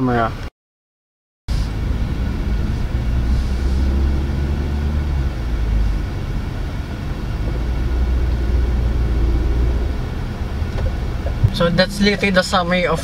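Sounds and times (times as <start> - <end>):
road noise inside car cabin: 0.0 - 0.5, 1.5 - 13.0.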